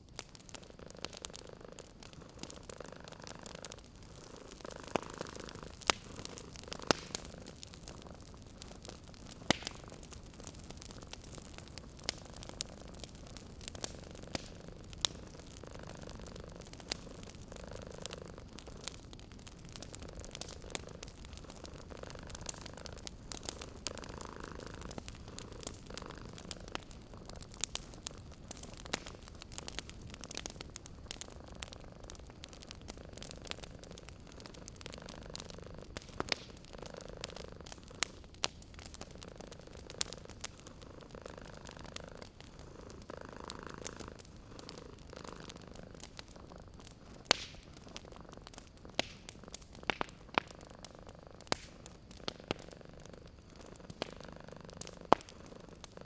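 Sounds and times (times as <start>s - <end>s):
wood fire crackling and popping: 0.0s - 56.0s
cat purring: 0.2s - 49.7s, 50.4s - 56.0s.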